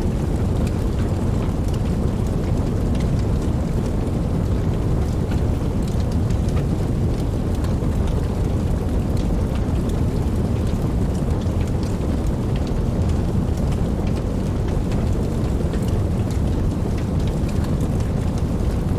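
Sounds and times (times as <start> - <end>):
deep continuous rumble: 0.0 - 18.9
steady rain falling: 0.0 - 18.9.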